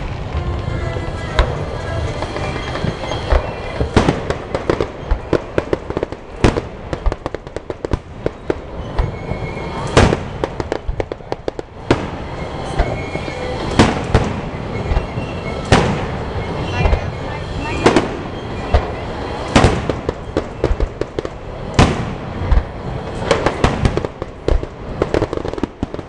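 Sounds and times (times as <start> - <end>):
firework booms: 0.0 - 26.0.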